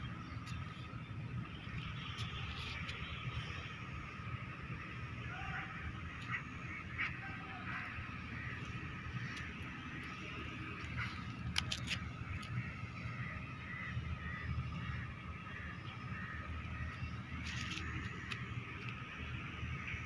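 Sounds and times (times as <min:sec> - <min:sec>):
birds calling: 0:00.0 - 0:20.0
low rumble of wind: 0:00.0 - 0:20.0.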